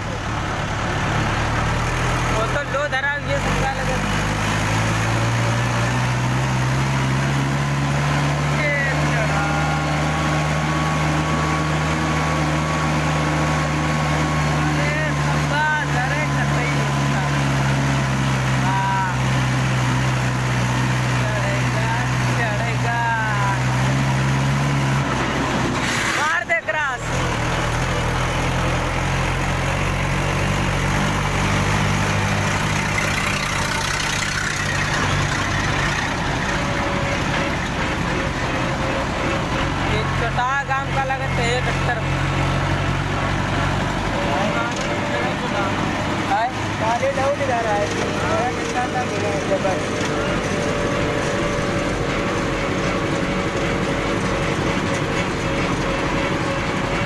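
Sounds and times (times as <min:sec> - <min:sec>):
road noise: 0:00.0 - 0:57.0
tractor engine running under load: 0:00.0 - 0:57.0.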